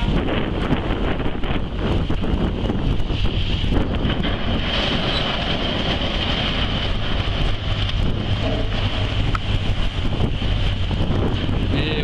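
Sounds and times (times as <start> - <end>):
low rumble and rushing: 0.0 - 12.0
wind buffeting microphone: 0.0 - 12.0.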